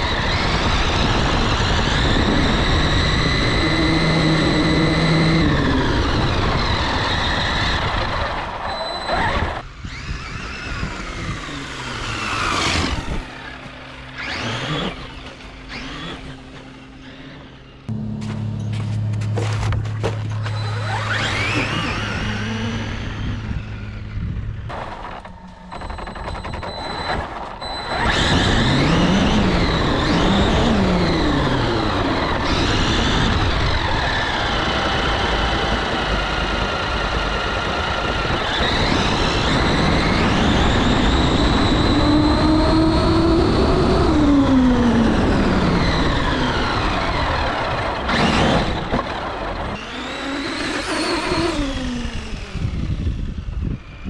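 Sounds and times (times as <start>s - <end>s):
electric toy truck motor whining: 0.0s - 17.9s, 20.4s - 54.0s.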